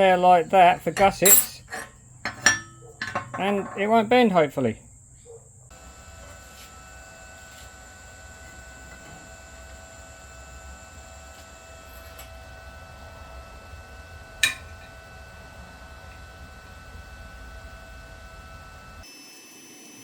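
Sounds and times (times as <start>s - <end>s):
electrical hum and high whine: 0.0s - 19.3s.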